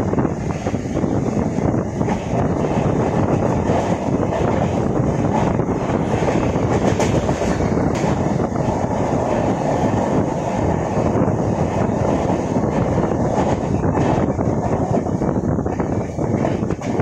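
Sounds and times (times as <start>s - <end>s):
rushing air: 0.0s - 17.0s
train wheels rumbling on rails: 0.0s - 17.0s.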